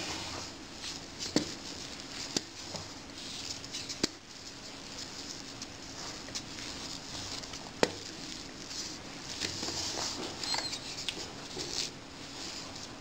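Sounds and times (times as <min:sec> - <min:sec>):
wooden spoon stirring dough: 0:00.0 - 0:13.0.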